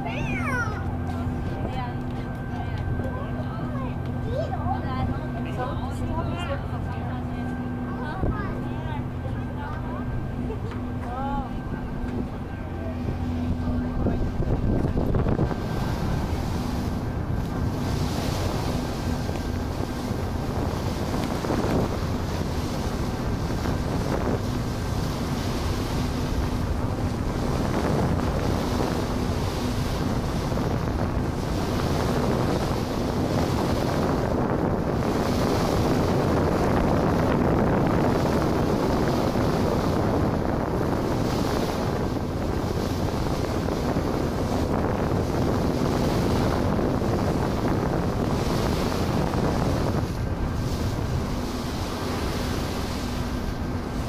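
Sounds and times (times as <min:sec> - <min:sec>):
faint engine hum: 0:00.0 - 0:54.0
water rushing past boat: 0:00.0 - 0:54.0
wind on microphone: 0:00.0 - 0:54.0.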